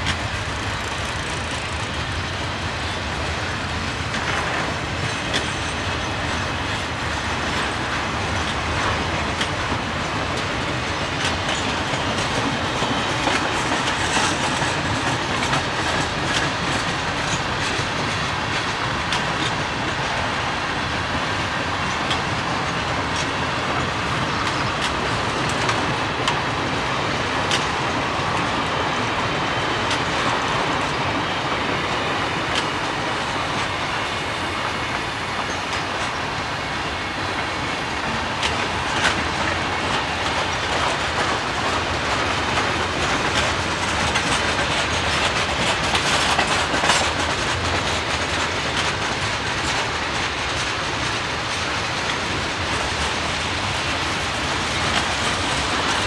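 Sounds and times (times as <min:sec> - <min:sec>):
train wheels on rail: 0:00.0 - 0:56.0.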